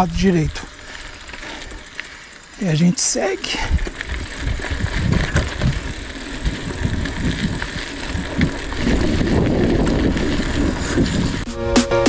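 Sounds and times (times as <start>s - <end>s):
wind rumbling on microphone: 0.0s - 1.9s, 3.5s - 11.5s
bike rattling and ticking: 0.0s - 11.5s
bike tyres on dirt: 0.0s - 11.5s.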